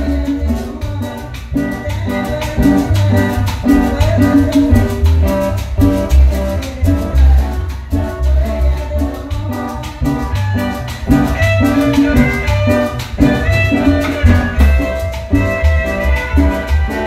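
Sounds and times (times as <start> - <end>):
folk band playing: 0.0 - 17.0
heavy repeating bass line: 0.0 - 17.0.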